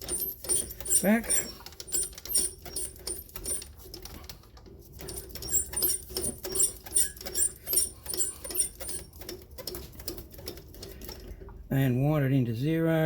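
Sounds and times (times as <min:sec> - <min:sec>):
lathe gears clicking and squeaking: 0:00.0 - 0:11.4.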